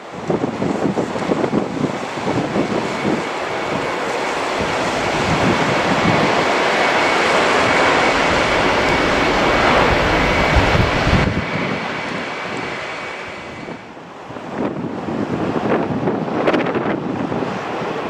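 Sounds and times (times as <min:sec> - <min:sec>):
jet engines roaring: 0:00.0 - 0:18.0
wind buffeting microphone: 0:00.0 - 0:18.0.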